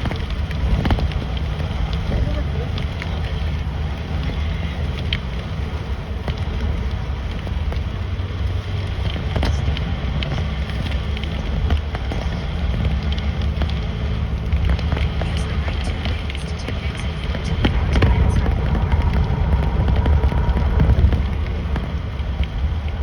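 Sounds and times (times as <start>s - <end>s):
car tyres and engine rumble: 0.0s - 23.0s
raindrops ticking on car: 0.0s - 23.0s.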